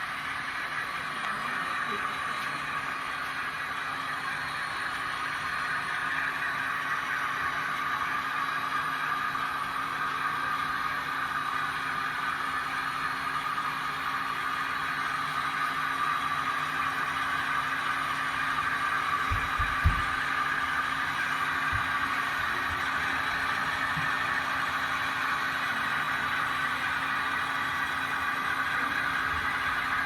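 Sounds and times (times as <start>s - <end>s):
model trains rolling on rails: 0.0s - 30.0s.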